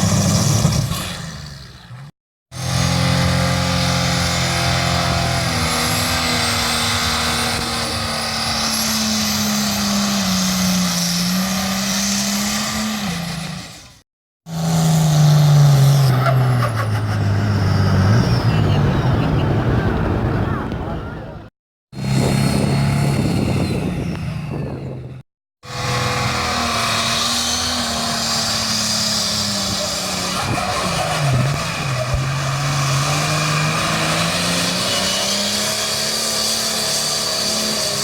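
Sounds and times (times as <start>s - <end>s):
tractor engine at high revs: 0.0s - 21.3s, 21.9s - 38.0s.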